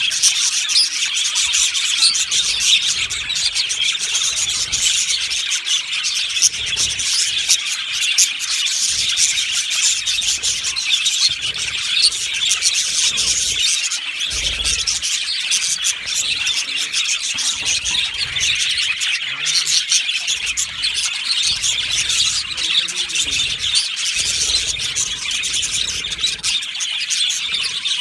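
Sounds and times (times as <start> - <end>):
budgerigars chattering: 0.0 - 28.0.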